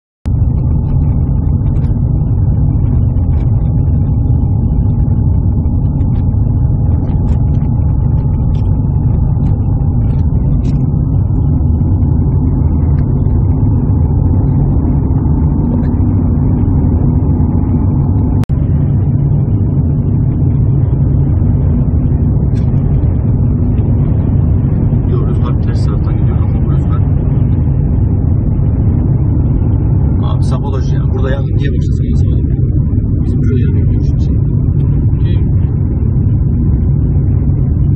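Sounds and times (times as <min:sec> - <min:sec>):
car road and wind noise: 0:00.3 - 0:37.9.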